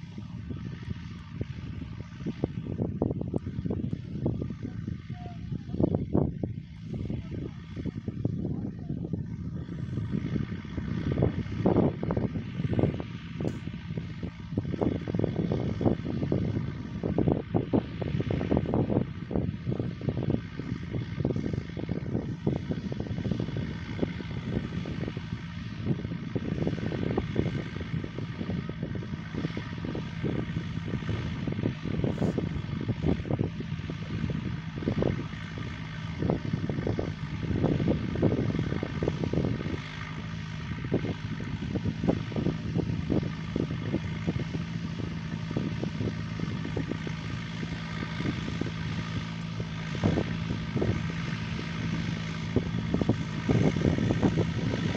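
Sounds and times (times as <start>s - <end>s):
tractor diesel engine under load: 0.0s - 54.9s
wind gusts on microphone: 0.0s - 54.9s.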